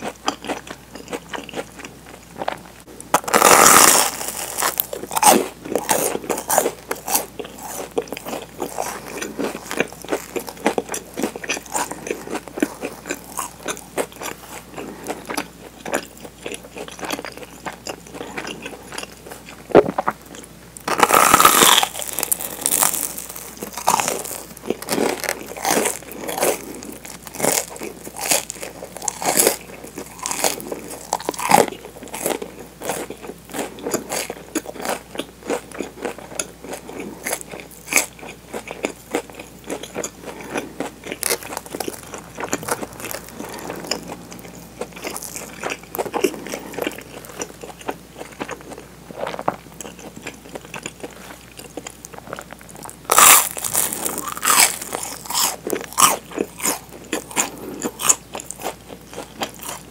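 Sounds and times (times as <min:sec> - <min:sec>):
crunching and chewing bread crust: 0:00.0 - 0:59.9.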